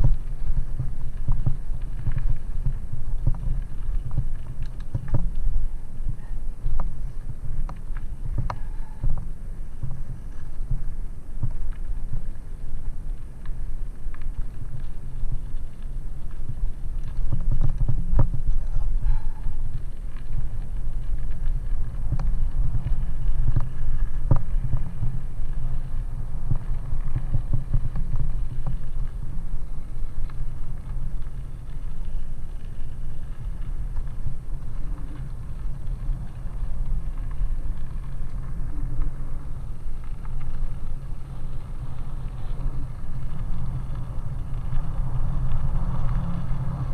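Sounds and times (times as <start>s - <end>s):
bicycle tyres rumbling on gravel: 0.0s - 46.9s
wind: 0.0s - 46.9s.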